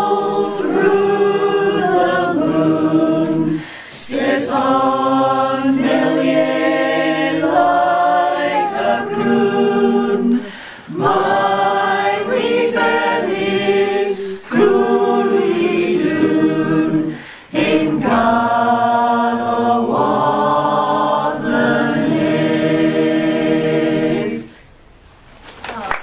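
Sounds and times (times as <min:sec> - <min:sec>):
small choir singing: 0:00.0 - 0:24.8.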